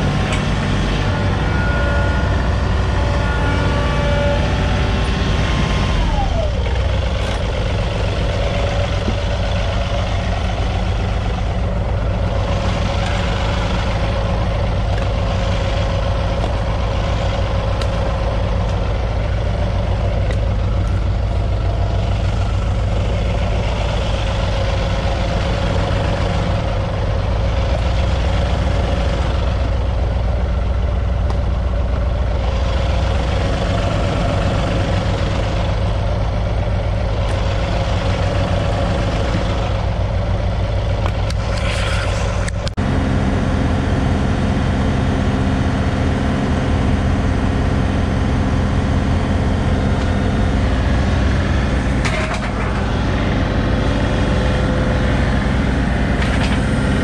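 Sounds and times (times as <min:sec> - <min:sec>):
steady engine whine: 0:00.0 - 0:57.0
tractor engine running: 0:00.0 - 0:57.0.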